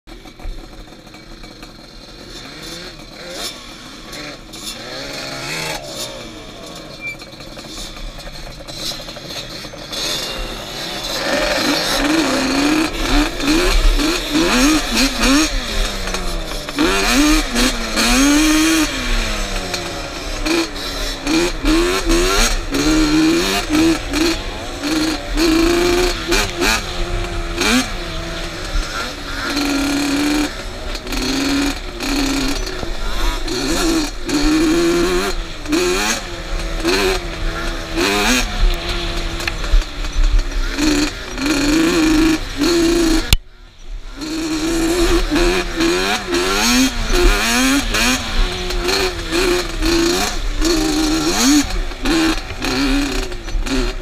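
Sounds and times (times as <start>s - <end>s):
quad engine revving: 0.1s - 54.0s.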